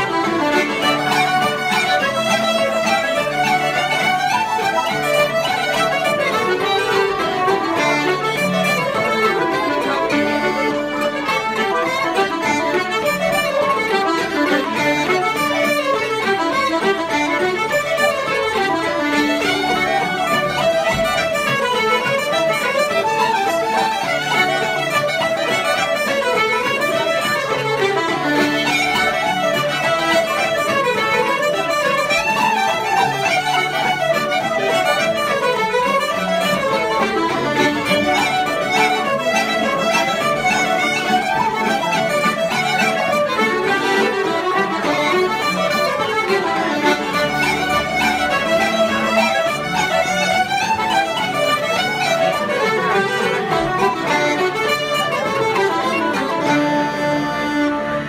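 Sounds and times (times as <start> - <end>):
fiddle: 0.0 - 58.0
wooden flute: 0.0 - 58.0.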